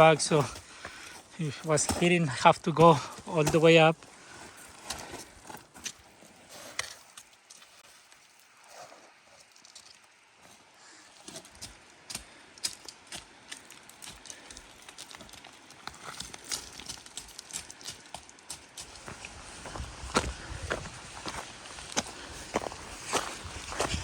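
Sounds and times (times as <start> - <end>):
footsteps on loose trail: 0.0 - 8.4, 11.4 - 24.0.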